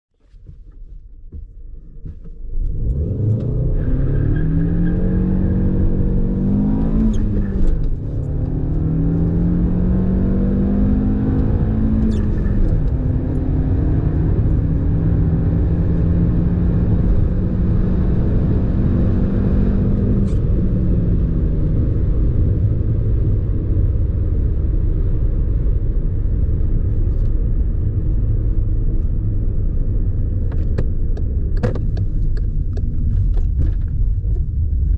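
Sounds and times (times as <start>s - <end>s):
car engine accelerating: 1.3s - 34.9s.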